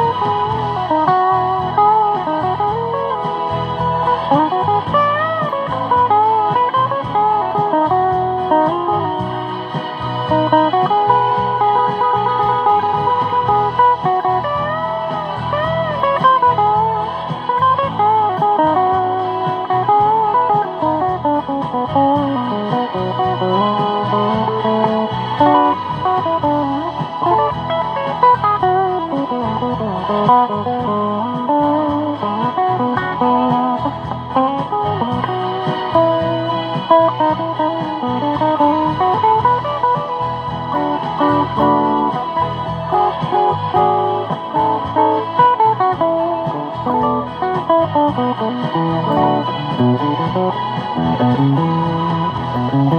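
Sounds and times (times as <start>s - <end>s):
guitar melody with bending notes: 0.0s - 52.9s
low accompaniment: 0.0s - 52.9s.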